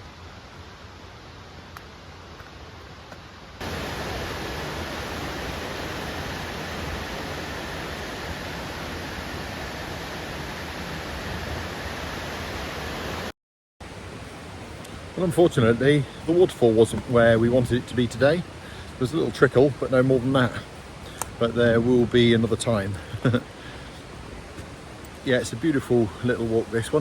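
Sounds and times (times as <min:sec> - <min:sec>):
waterfall rushing: 0:03.6 - 0:27.0.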